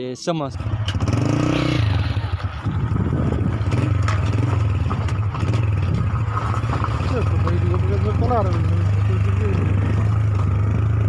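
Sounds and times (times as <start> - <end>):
vehicle engine droning: 0.5 - 11.0.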